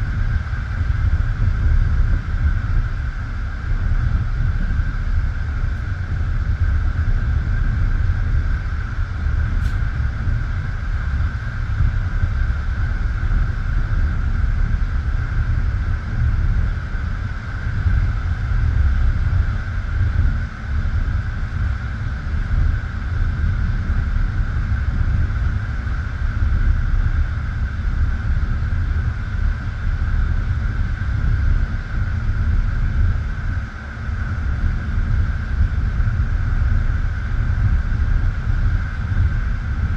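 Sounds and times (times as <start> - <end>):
steady high hum: 0.0 - 39.9.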